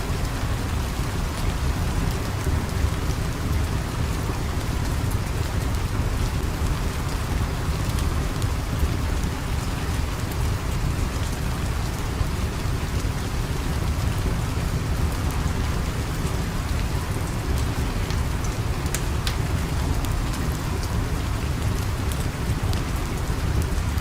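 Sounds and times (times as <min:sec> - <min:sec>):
steady rain falling: 0:00.0 - 0:24.0
faint crackles: 0:01.4 - 0:24.0.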